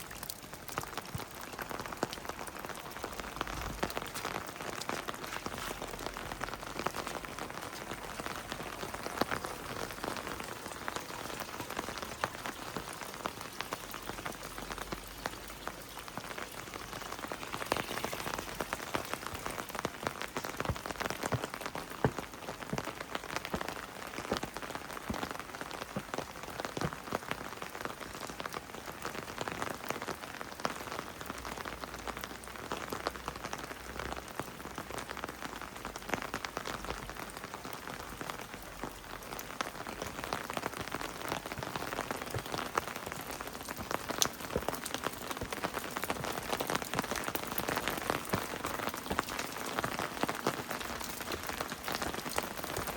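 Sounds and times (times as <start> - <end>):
heavy rain falling: 0.0 - 52.9
raindrops ticking close by: 0.0 - 52.9.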